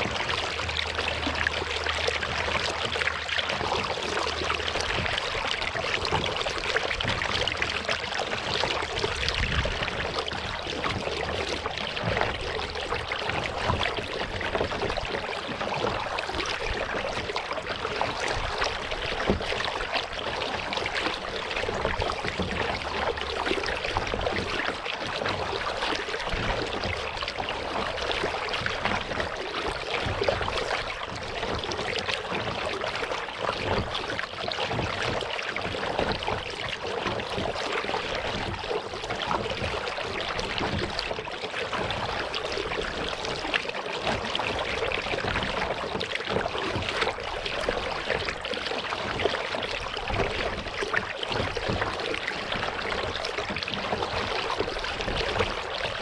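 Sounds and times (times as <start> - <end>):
water lapping and dripping: 0.0 - 56.0.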